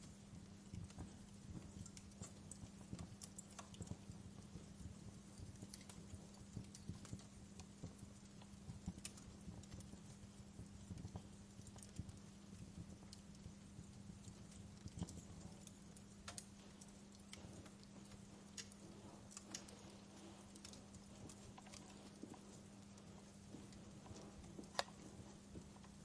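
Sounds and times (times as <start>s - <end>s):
steady low hum: 0.0s - 26.0s
wood fire crackling: 0.0s - 26.0s.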